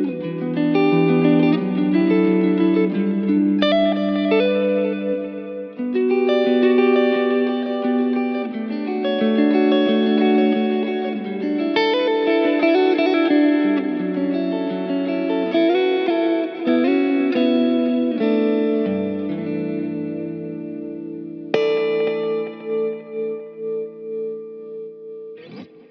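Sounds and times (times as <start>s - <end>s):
electric guitar melody: 0.0s - 25.9s.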